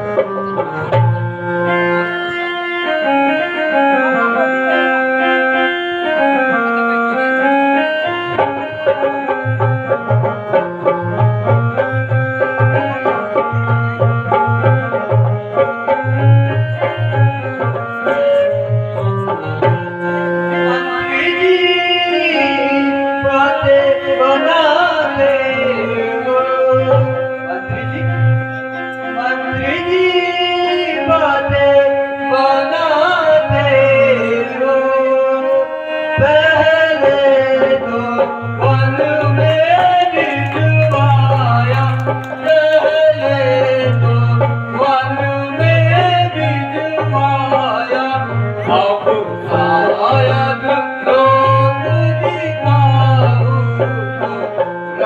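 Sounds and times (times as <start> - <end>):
held melodic accompaniment: 0.0 - 55.0
person singing: 10.8 - 55.0.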